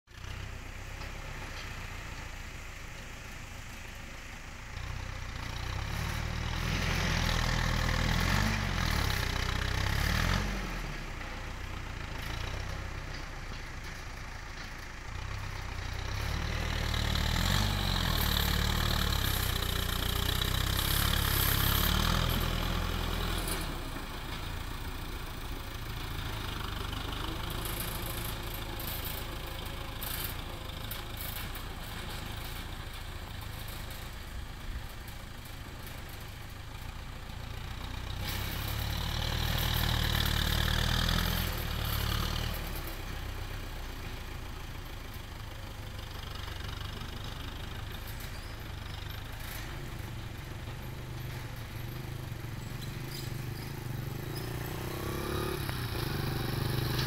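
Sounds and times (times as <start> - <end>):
tractor diesel engine: 0.0 - 57.0.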